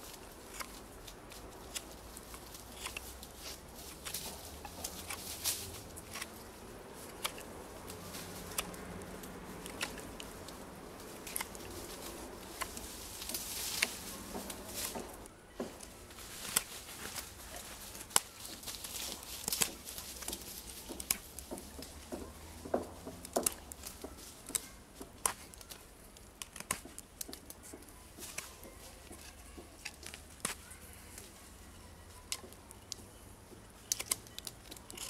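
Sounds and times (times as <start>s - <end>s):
knife carving wood: 0.0s - 30.8s, 33.6s - 35.0s.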